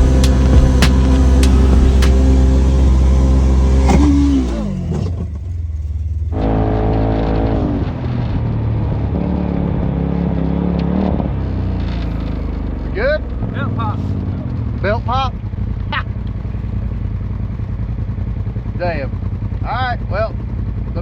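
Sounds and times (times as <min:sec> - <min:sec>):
utility vehicle engine revving: 0:00.0 - 0:19.6.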